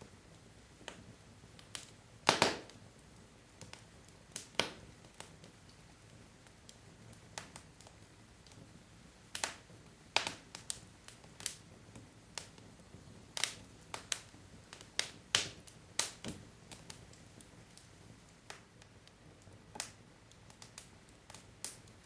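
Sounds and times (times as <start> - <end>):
low steady hiss: 0.0 - 22.0
wood fire crackling: 0.0 - 22.0.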